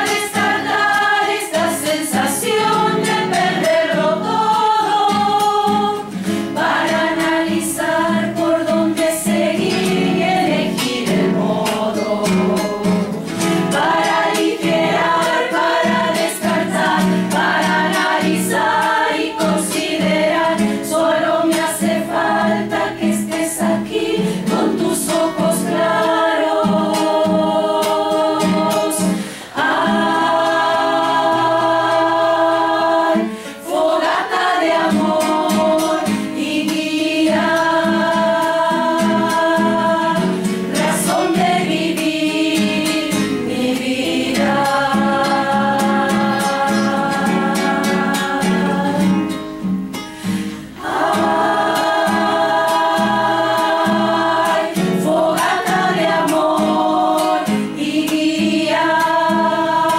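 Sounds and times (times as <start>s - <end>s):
mixed choir singing: 0.0s - 49.4s, 50.2s - 59.9s
guitar: 0.0s - 59.9s.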